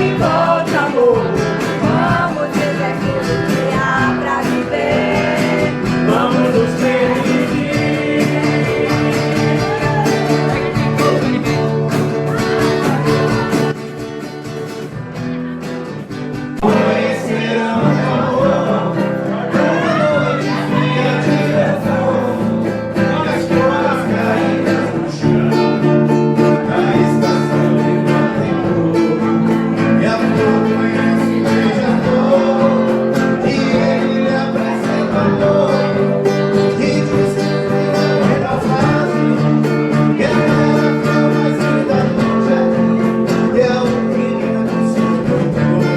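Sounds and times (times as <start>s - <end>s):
guitar-backed song with singing: 0.0s - 45.9s.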